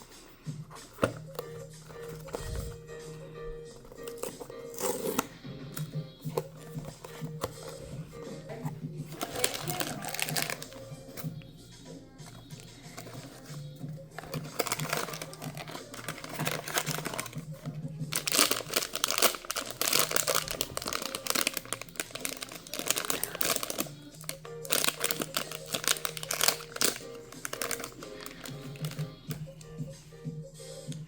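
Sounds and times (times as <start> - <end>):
background music: 0.0 - 31.0
packaging crinkling and rustling: 0.8 - 2.8, 3.8 - 8.0, 9.1 - 11.3, 12.2 - 13.6, 14.2 - 29.3.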